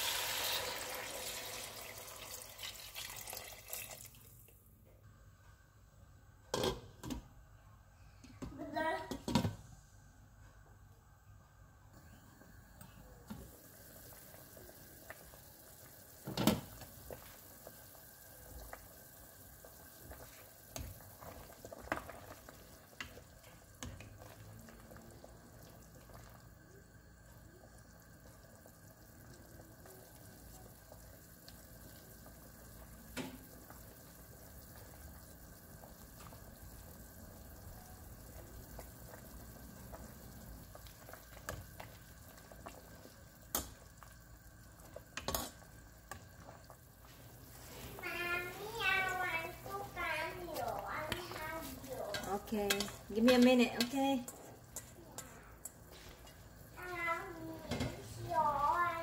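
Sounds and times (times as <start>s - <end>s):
soup bubbling in pot: 0.0s - 5.2s, 12.0s - 59.0s.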